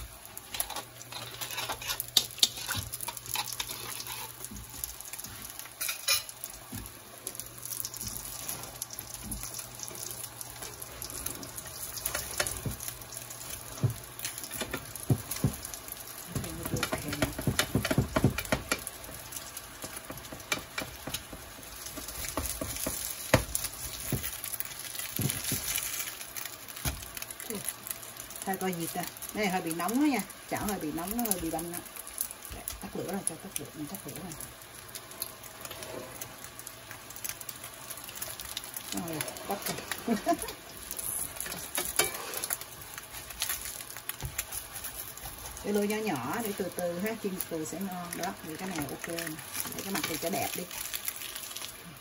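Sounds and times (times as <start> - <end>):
food sizzling in hot oil: 0.0 - 52.0
oil crackling and popping: 0.0 - 52.0.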